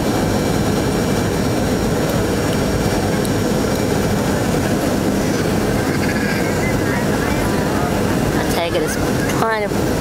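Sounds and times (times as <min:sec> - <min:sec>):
airliner cabin engine noise: 0:00.0 - 0:10.0.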